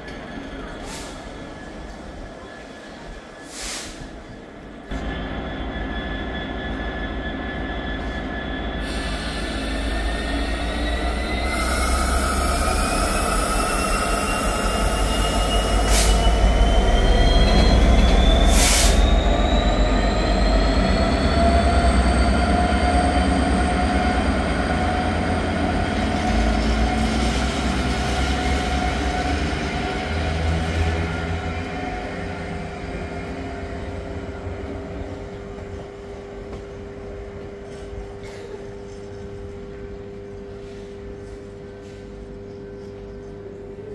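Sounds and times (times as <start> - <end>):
diesel locomotive engine rumble: 0.0 - 43.9.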